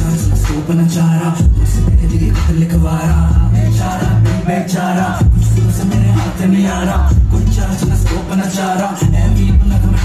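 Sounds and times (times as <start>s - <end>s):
loud beat with heavy bass: 0.0s - 10.0s
man rapping into a microphone: 0.0s - 10.0s.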